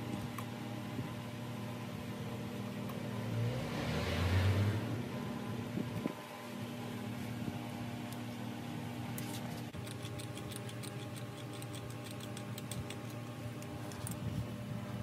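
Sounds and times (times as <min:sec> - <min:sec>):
shop machinery hum: 0:00.0 - 0:15.0.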